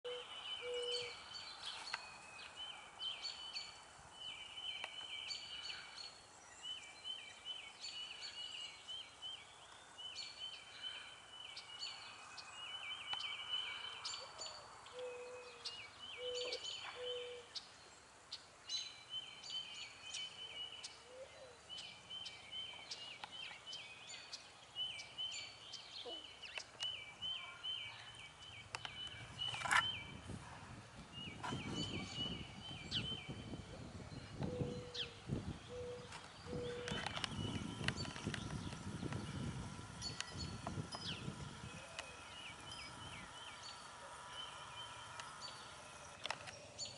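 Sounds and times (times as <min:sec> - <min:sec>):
small birds chirping: 0:00.0 - 0:46.9
faint background hiss: 0:00.1 - 0:46.9.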